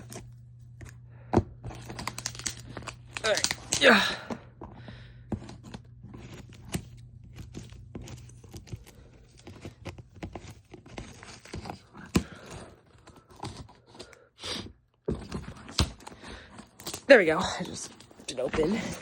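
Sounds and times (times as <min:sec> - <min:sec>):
cardboard rustling: 0:00.0 - 0:03.9, 0:04.6 - 0:19.0
cardboard tearing: 0:01.6 - 0:04.1, 0:05.3 - 0:19.0.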